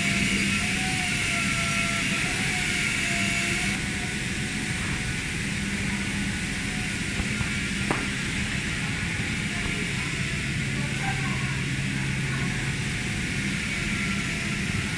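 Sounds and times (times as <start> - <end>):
machinery hum and hiss: 0.0 - 14.9
thin wavering whine: 0.0 - 14.9.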